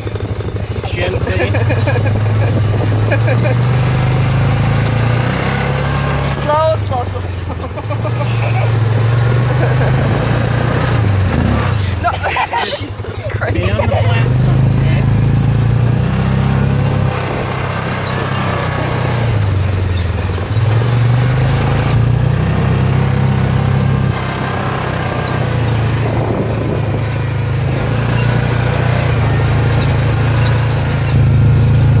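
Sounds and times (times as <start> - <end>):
engine running while driving: 0.0 - 32.0.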